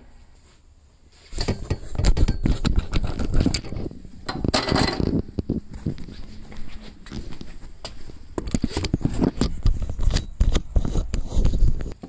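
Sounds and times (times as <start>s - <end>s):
scraping rustle: 0.4s - 4.0s, 5.0s - 12.0s.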